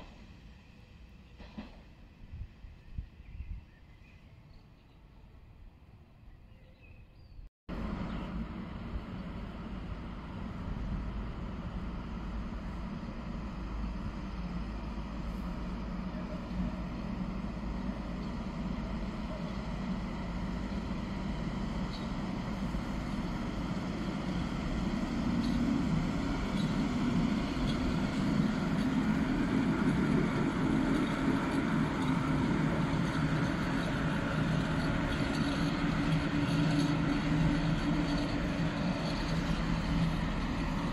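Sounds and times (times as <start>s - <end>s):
freight train rolling past: 0.0s - 4.5s, 7.7s - 40.9s.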